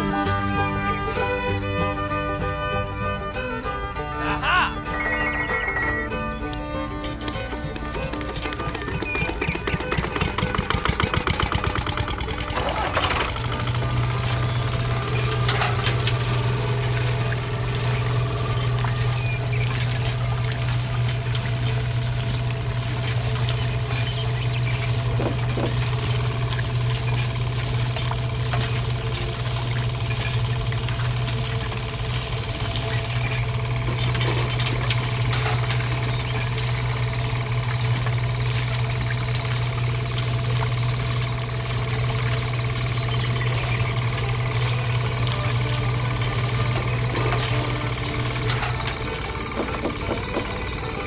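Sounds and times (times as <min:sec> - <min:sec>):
small motor humming: 0:00.0 - 0:51.0.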